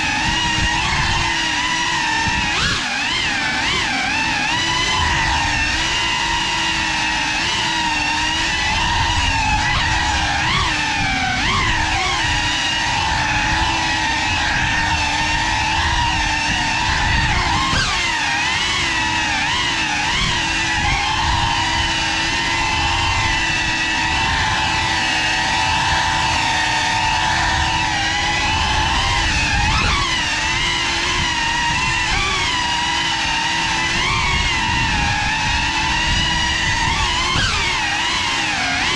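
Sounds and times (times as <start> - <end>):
drone motors whining: 0.0 - 38.9.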